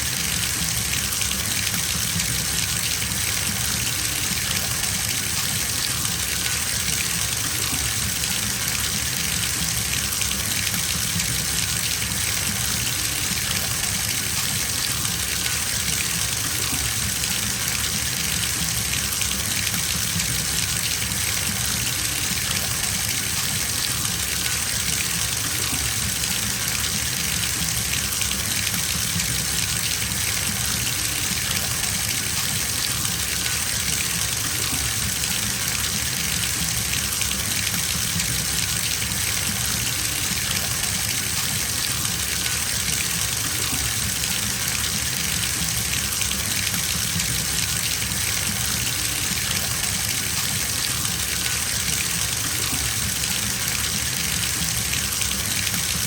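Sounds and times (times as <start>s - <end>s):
water gushing from bathtub tap: 0.0s - 56.0s.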